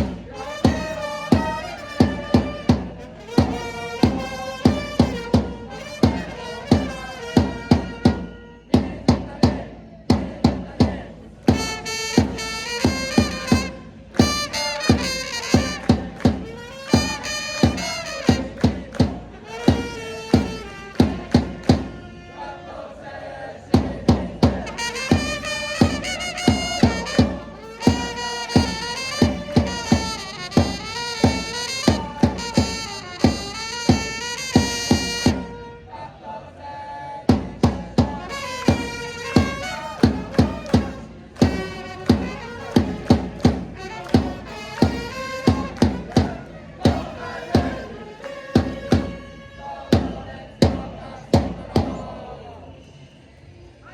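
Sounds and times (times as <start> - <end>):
trumpets playing melody: 0.0 - 8.7, 11.5 - 23.2, 24.6 - 36.4, 38.2 - 50.4
drum beats: 0.0 - 22.2, 23.7 - 35.6, 37.3 - 49.3, 49.9 - 52.1
crowd chanting: 0.0 - 53.9.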